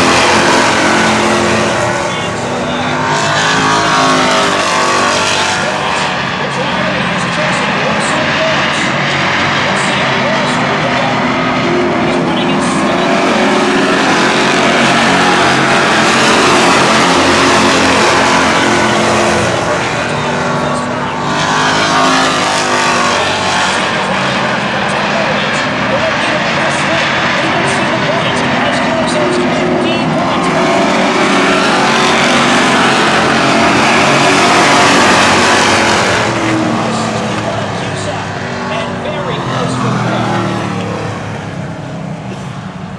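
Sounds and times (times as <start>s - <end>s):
racing cars passing at speed: 0.0s - 42.9s.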